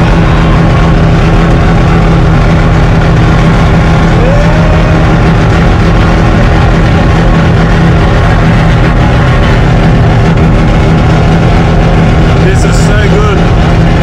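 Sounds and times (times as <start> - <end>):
rotary engine running hard: 0.0 - 14.0.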